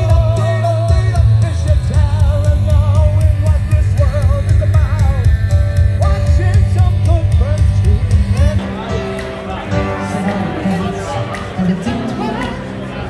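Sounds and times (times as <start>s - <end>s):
bass guitar: 0.0s - 13.0s
drums: 0.0s - 13.0s
electric guitar: 0.0s - 13.0s
person singing: 0.0s - 13.0s.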